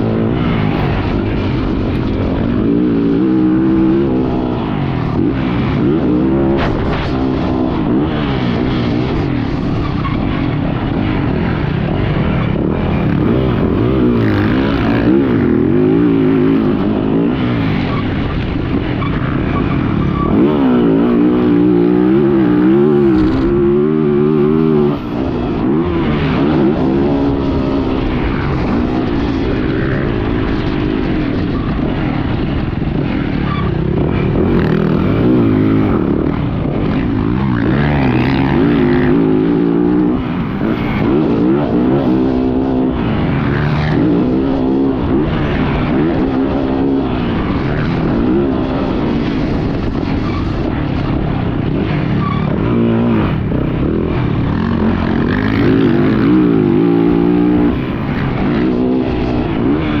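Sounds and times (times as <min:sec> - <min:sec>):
motocross bike engine revving: 0:00.0 - 1:00.0.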